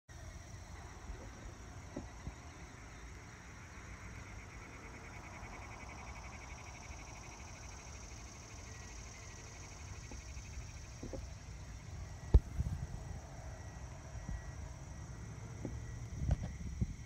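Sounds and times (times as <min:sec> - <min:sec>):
insects high drone: 0:00.1 - 0:17.0
rapid pulsing insect trill: 0:00.1 - 0:17.0.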